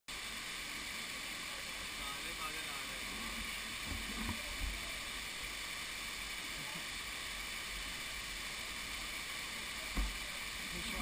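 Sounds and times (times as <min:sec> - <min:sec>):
waterfall rushing hiss: 0:00.1 - 0:11.0.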